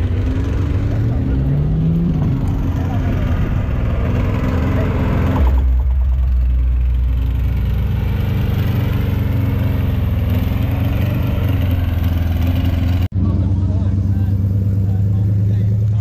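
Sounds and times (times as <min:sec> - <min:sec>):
car engine passing by: 0:00.0 - 0:16.0.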